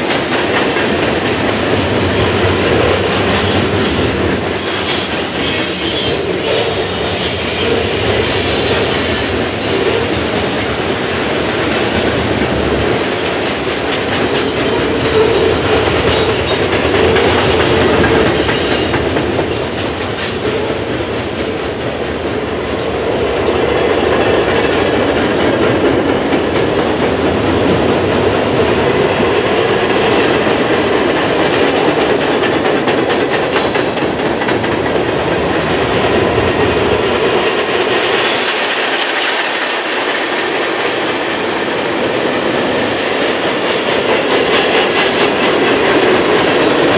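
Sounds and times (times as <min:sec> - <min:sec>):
train wheels clattering on rails: 0:00.0 - 0:46.9.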